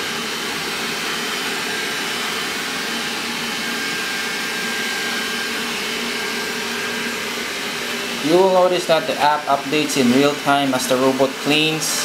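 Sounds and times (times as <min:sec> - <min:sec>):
robot vacuum whirring: 0:00.0 - 0:12.0.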